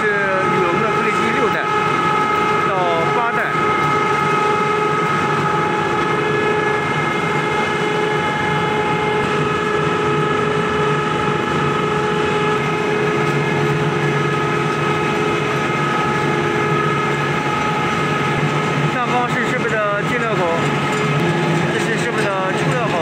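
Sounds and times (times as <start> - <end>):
high steady whining tones: 0.0 - 23.0
machine drone: 0.0 - 23.0.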